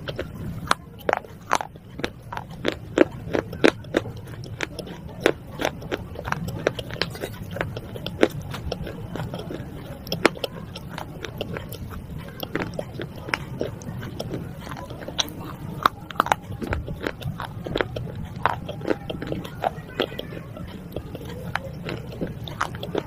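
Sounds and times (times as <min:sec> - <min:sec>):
clay shards crunching when chewed: 0:00.0 - 0:23.0.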